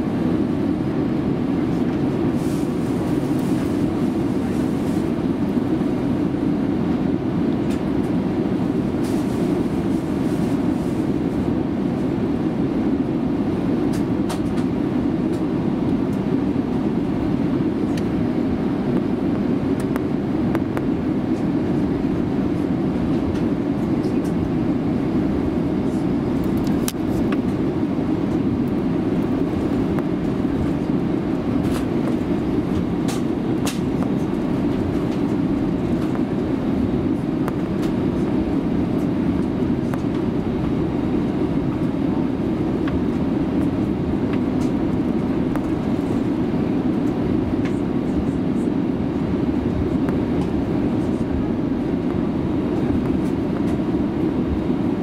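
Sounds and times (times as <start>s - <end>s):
aircraft rolling on taxiway: 0.0s - 55.0s
jet engines rumbling: 0.0s - 55.0s.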